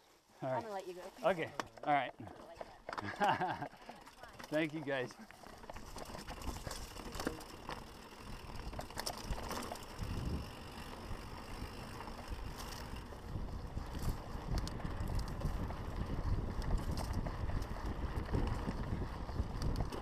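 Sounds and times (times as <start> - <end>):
bike tyres on dirt and stones: 0.0 - 20.0
bike clicks and rattles: 0.8 - 20.0.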